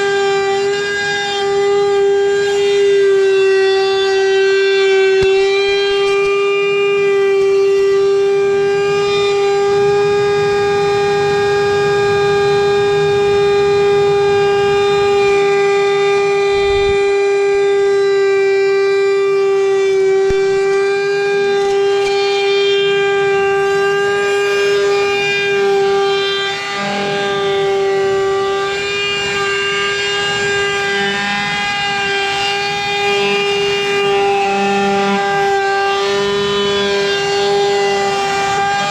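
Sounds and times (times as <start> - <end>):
wood router whining: 0.0 - 38.9.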